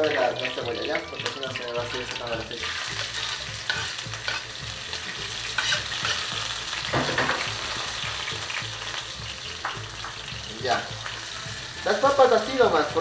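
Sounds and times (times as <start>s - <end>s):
onion sizzling in frying pan: 0.0s - 13.0s.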